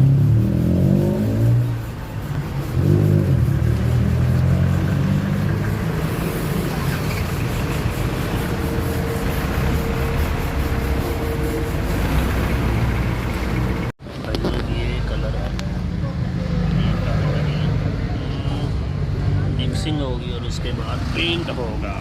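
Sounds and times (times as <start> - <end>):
car engines driving past: 0.0 - 22.0.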